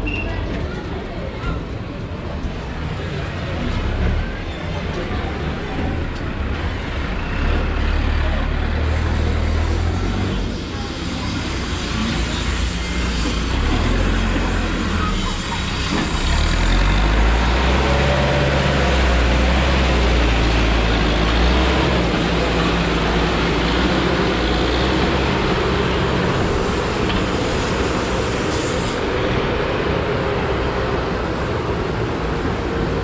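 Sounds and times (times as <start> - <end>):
street traffic noise: 0.0 - 33.0.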